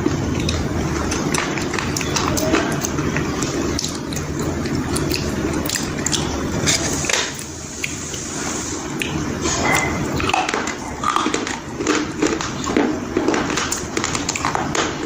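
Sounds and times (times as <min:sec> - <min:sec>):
crisp chewing crunches: 0:00.0 - 0:08.3, 0:08.9 - 0:15.0
low background hum: 0:00.0 - 0:15.0.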